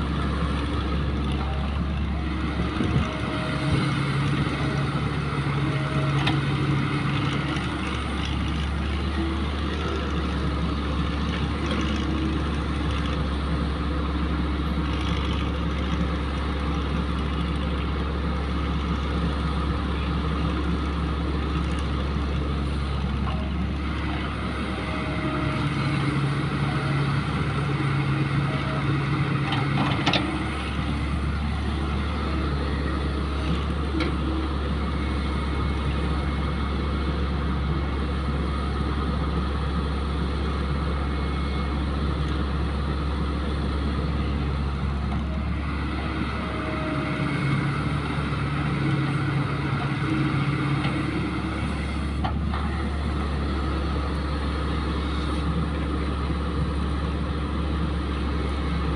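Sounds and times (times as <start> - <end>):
excavator diesel engine: 0.0 - 58.9.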